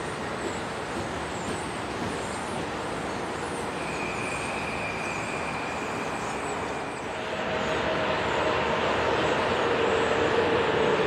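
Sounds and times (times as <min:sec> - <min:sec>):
electric train rumbling: 0:00.0 - 0:11.0.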